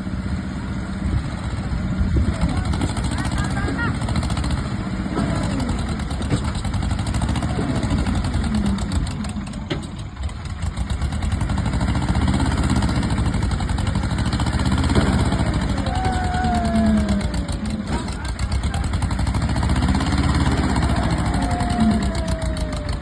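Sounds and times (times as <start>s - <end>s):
heavy diesel engines under load: 0.0s - 23.0s.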